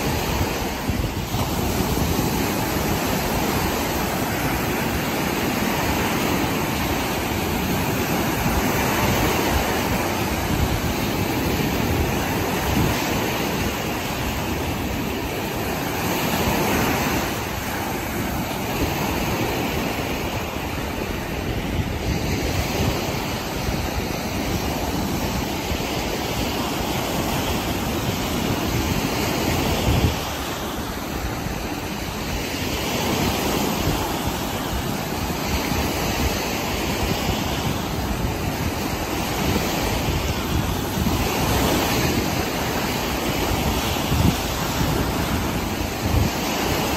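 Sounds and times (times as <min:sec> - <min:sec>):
waves breaking on beach: 0:00.0 - 0:46.9.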